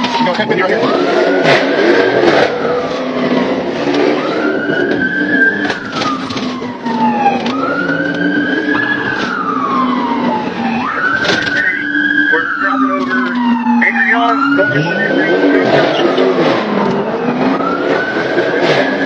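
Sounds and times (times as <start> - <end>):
police siren wailing: 0.0 - 19.0.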